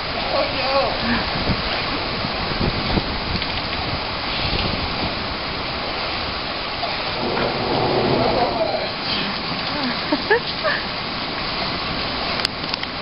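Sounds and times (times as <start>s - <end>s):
rain falling on water and pavement: 0.0s - 13.0s.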